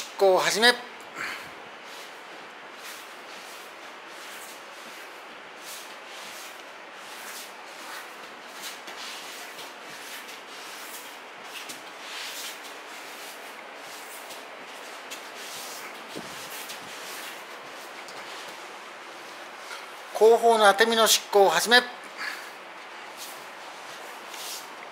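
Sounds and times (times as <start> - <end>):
knees sliding over tatami mats: 1.2 - 20.1, 22.1 - 24.9
cotton clothing rustling: 1.2 - 21.1, 22.0 - 24.9.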